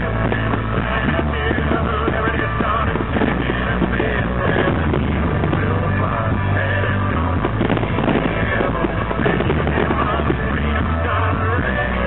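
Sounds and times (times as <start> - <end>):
rock music with bass line: 0.0 - 12.0.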